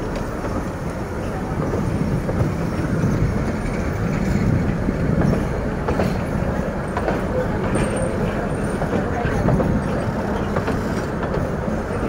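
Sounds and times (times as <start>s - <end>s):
train rumbling over bridge: 0.0s - 12.0s.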